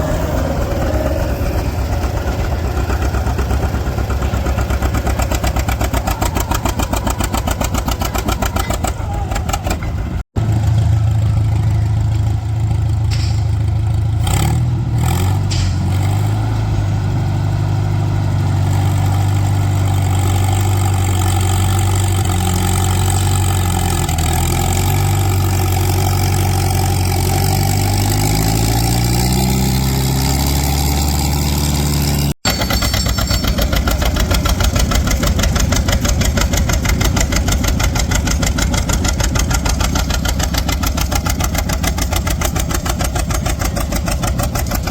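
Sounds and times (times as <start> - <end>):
tractor engines running: 0.0 - 44.9.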